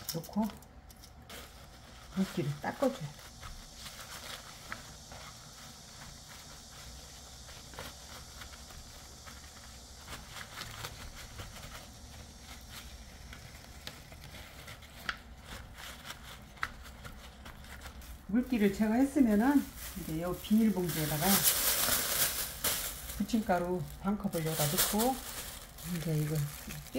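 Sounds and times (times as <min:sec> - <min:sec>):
paper towels rustling: 0:01.2 - 0:26.9.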